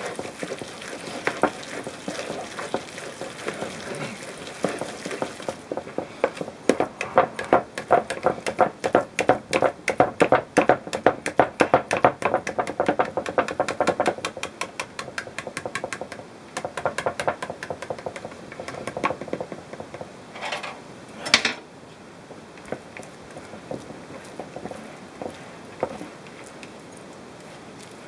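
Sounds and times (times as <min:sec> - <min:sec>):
whisk beating wet meat mixture: 0:00.0 - 0:20.0, 0:22.6 - 0:28.0.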